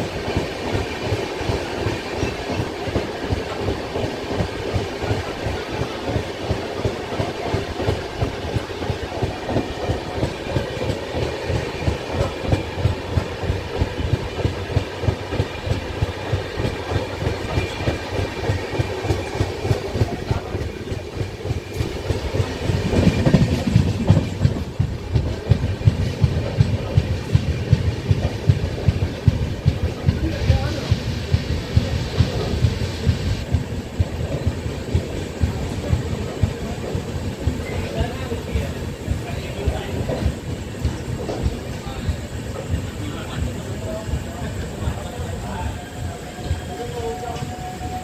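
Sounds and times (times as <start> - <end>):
train wheels clattering: 0.0 - 48.0.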